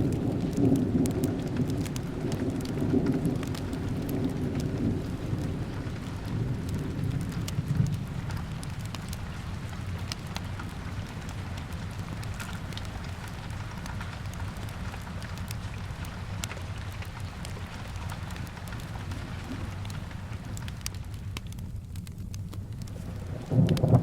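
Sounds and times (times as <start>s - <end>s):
rain on a window: 0.0s - 24.0s
wood fire crackles: 0.0s - 24.0s.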